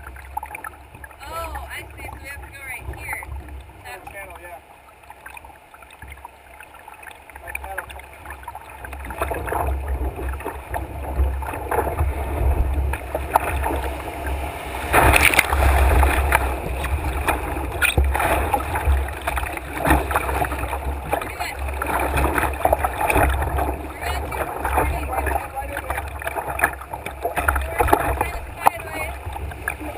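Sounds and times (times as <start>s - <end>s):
whitewater rushing and splashing: 0.0s - 29.9s.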